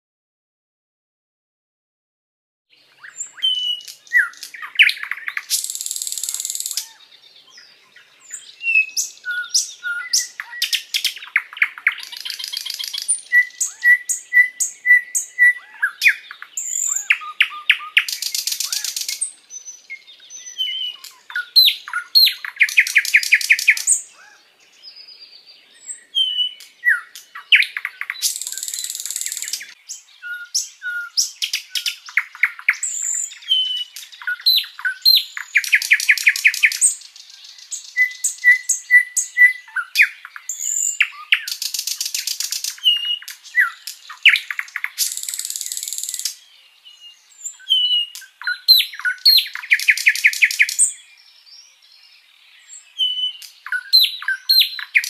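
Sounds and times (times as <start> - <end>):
songbird singing whistles and trills: 2.7 - 55.0.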